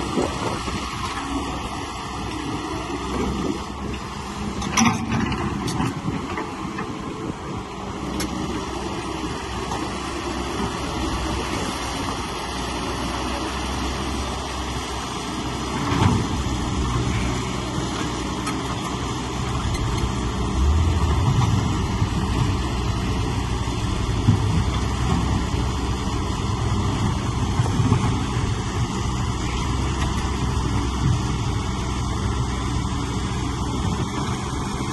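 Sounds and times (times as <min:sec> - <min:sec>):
heavy machinery engine running: 0:00.0 - 0:34.9.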